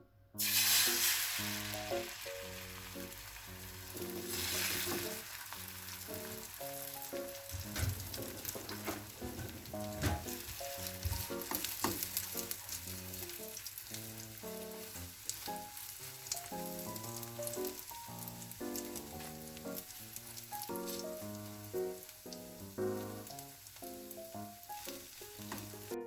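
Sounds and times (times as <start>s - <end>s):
background music melody: 0.0s - 26.0s
food sizzling in a pan: 0.4s - 26.0s.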